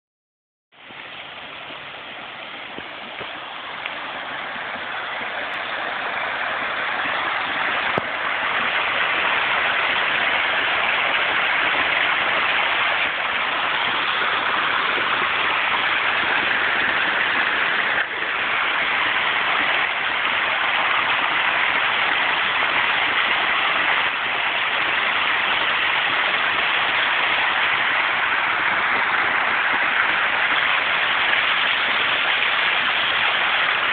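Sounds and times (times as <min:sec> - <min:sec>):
heavy rain on pond water: 0:00.7 - 0:33.9.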